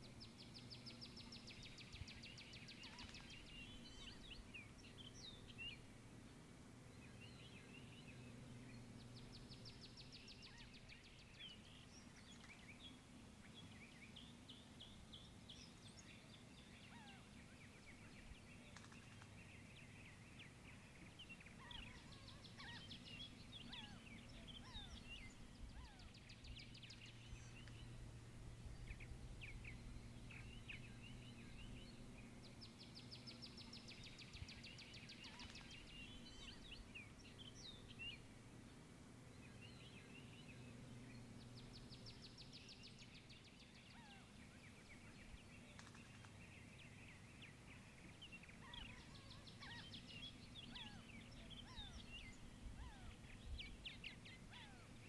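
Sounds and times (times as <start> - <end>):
faint birdsong: 0.0 - 55.0
low steady hum: 0.0 - 55.0.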